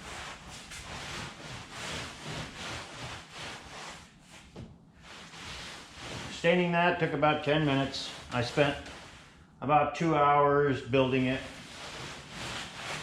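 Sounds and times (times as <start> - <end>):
cloth rag wiping a bench top: 0.0 - 9.4, 10.9 - 13.0.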